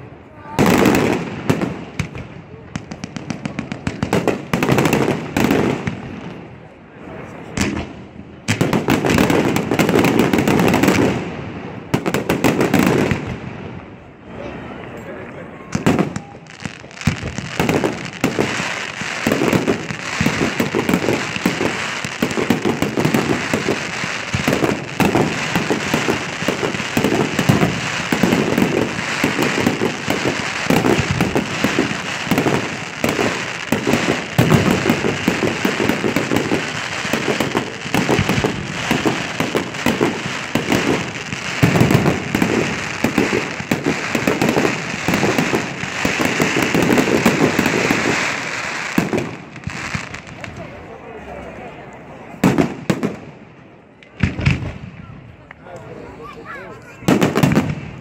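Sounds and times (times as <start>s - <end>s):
fireworks crackle: 0.0s - 51.0s, 52.3s - 55.6s, 56.4s - 58.0s.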